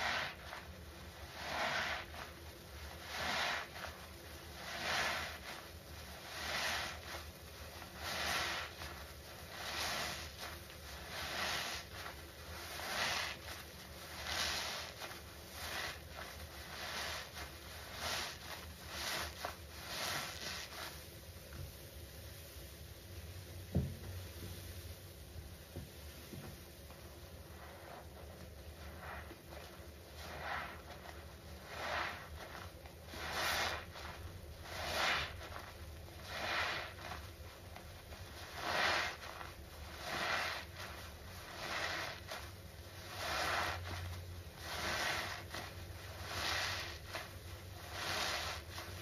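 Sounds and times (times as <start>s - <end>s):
foam sponge squelching: 0.0s - 21.6s, 26.4s - 49.0s.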